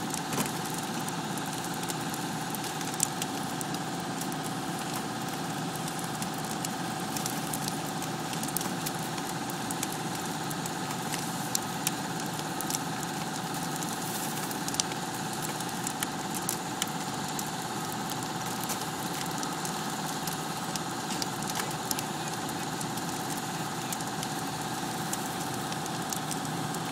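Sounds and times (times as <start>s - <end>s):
fire crackling and popping: 0.0s - 26.9s
fire engine pump drone: 0.0s - 26.9s.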